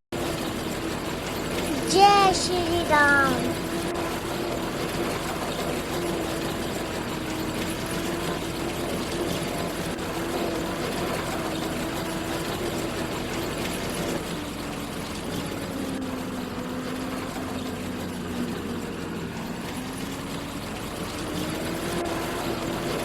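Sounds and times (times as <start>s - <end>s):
farm machinery engine running: 3.5s - 23.0s.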